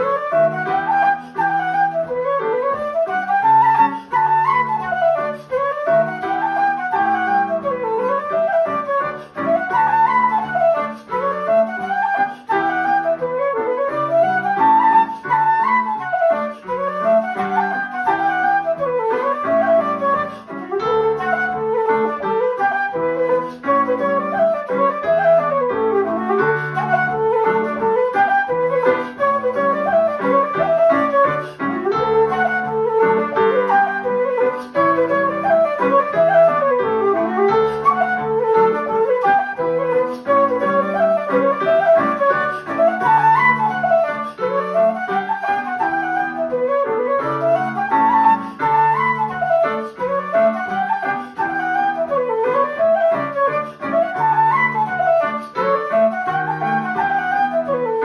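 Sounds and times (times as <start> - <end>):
digital piano chords: 0.0 - 58.0
wooden flute melody: 0.0 - 58.0.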